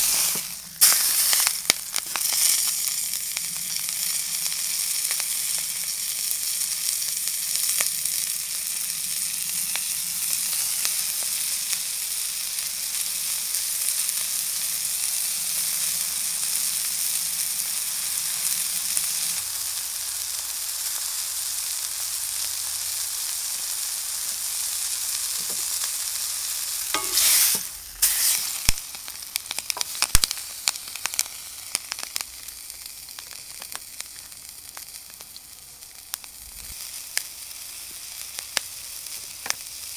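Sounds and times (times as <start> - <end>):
steak sizzling in a pan: 0.0 - 39.9.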